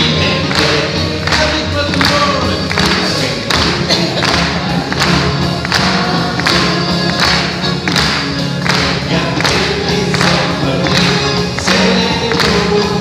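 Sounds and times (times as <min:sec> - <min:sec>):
crowd singing together: 0:00.0 - 0:13.0
live band playing: 0:00.0 - 0:13.0.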